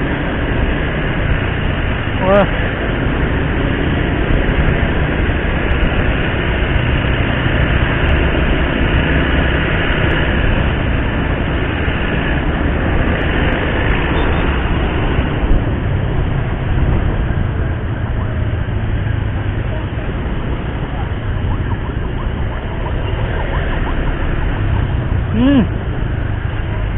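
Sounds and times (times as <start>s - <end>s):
motorcycle engine rumble: 0.0s - 26.9s
traffic rumble: 0.0s - 26.9s
wind rushing on microphone: 0.0s - 26.9s.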